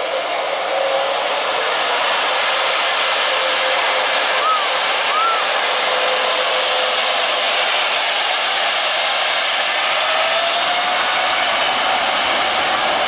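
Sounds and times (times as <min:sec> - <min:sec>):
faint engine whine: 0:00.0 - 0:13.0
jet engines roaring: 0:00.0 - 0:13.0.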